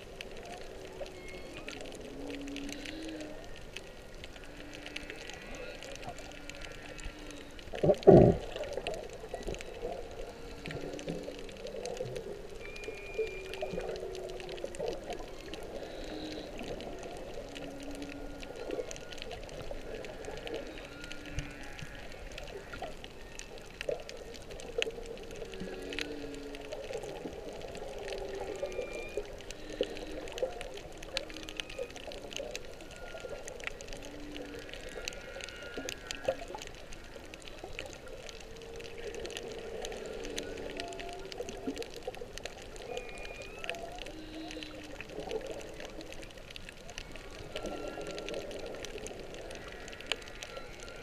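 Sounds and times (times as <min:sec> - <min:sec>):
faint crackling clicks: 0:00.0 - 0:51.0
whale song moans and squeals: 0:00.0 - 0:51.0.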